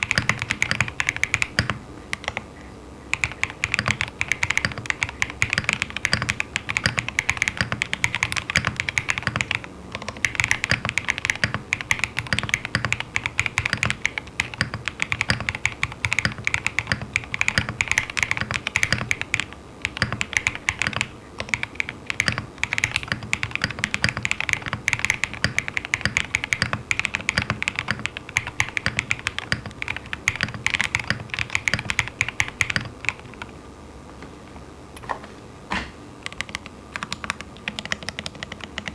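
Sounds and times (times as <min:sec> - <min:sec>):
typing on mechanical keyboard: 0:00.0 - 0:02.5, 0:03.1 - 0:33.5, 0:36.2 - 0:38.9
faint electrical buzz: 0:00.0 - 0:38.9.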